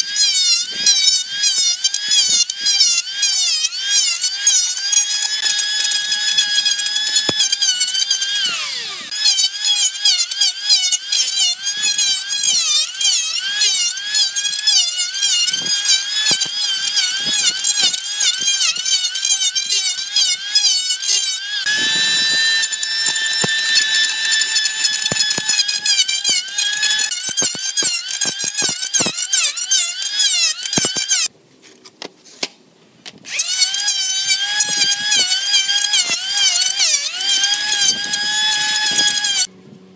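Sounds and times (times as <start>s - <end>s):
electric hand planer whining: 0.0s - 31.3s, 33.3s - 39.5s.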